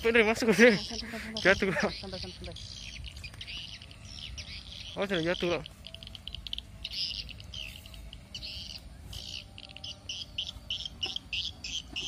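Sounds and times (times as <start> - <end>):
small bird chirping: 0.0 - 12.0.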